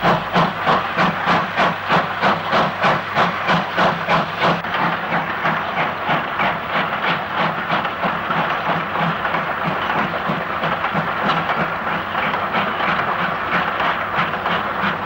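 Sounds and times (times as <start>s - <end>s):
steam locomotive exhaust beating: 0.0s - 15.0s.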